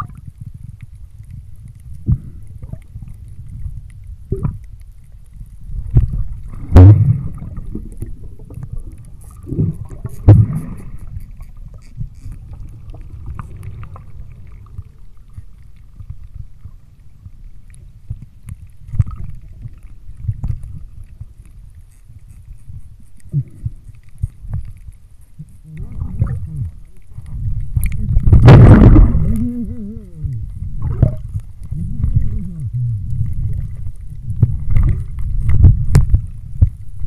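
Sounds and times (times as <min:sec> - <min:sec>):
muffled underwater water rumble: 0:00.0 - 0:37.0.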